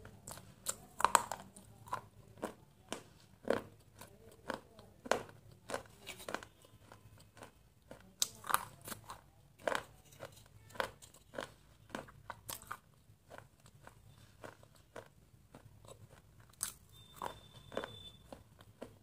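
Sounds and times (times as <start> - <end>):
crunching and chewing: 0.0 - 19.0.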